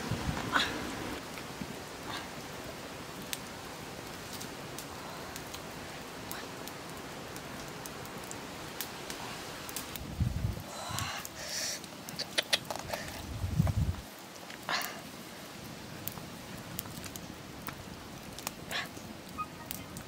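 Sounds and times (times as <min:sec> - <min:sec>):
campfire crackling and popping: 0:00.0 - 0:20.0
fire hissing: 0:00.0 - 0:20.0.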